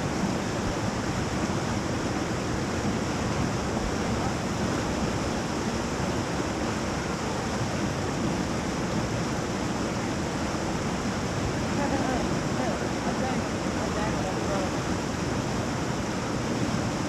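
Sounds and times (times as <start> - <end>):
river rapid rushing: 0.0 - 17.0.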